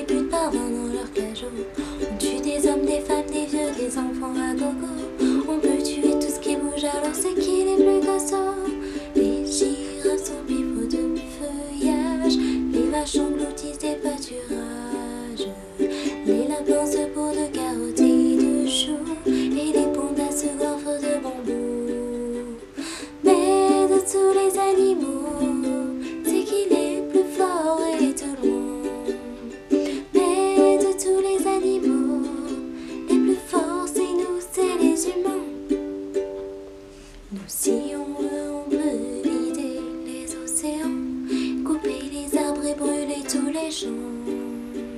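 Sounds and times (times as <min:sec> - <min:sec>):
woman singing: 0:00.0 - 0:36.2, 0:37.3 - 0:44.9
ukulele strumming: 0:00.0 - 0:44.9.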